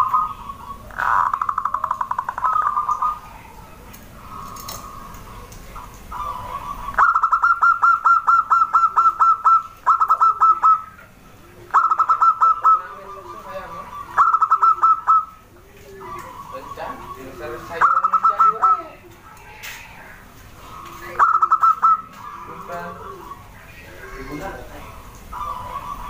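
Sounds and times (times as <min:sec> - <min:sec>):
dove rapid staccato coos: 0:00.0 - 0:26.0.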